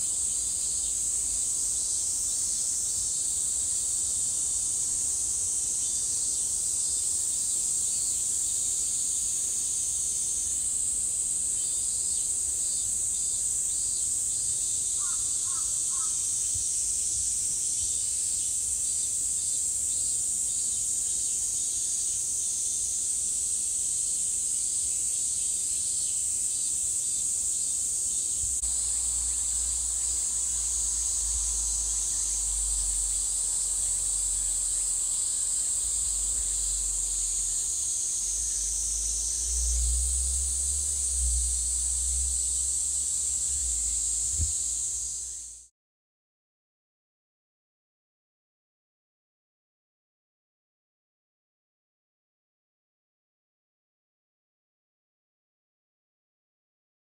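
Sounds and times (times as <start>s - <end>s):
high-pitched insect chorus: 0.0s - 45.7s.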